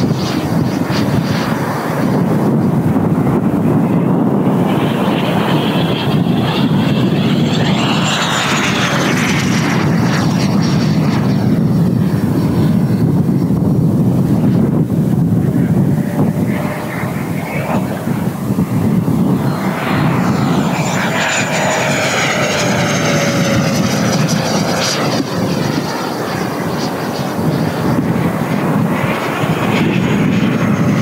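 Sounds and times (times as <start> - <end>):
electric ducted fan whine: 0.0 - 31.0
low rumble: 2.0 - 31.0.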